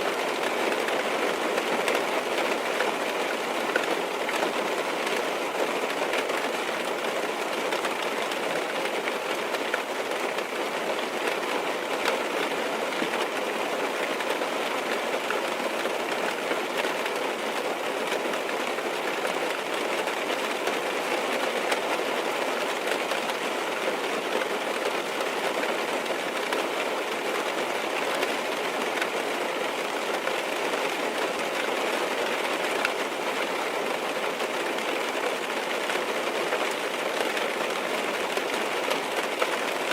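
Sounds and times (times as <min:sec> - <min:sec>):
rain on car roof and windows: 0:00.0 - 0:39.9.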